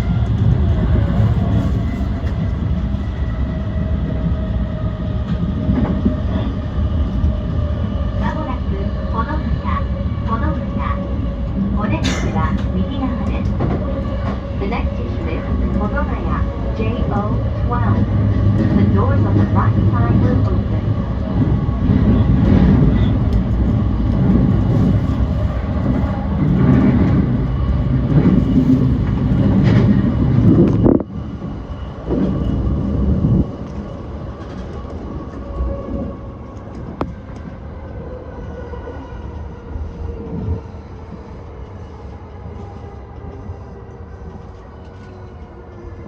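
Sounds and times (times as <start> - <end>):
rail and wheel rumble: 0.0 - 46.0.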